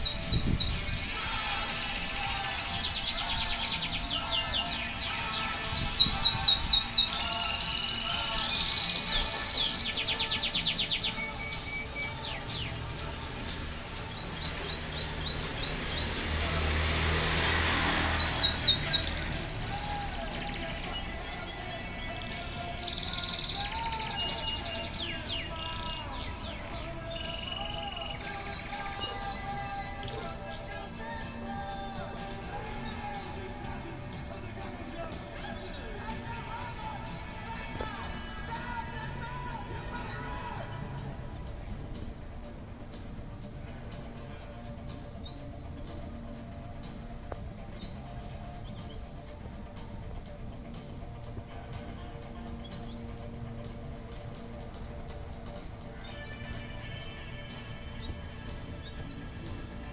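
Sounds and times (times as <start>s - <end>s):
bird singing high notes: 0.0s - 59.9s
other birds chirping: 0.0s - 59.9s.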